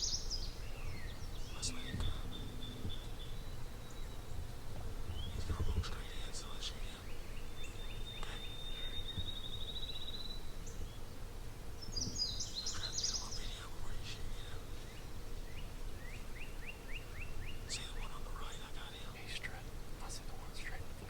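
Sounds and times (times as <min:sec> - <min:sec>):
low outdoor rumble: 0:00.0 - 0:21.0
wild birds calling: 0:00.0 - 0:21.0.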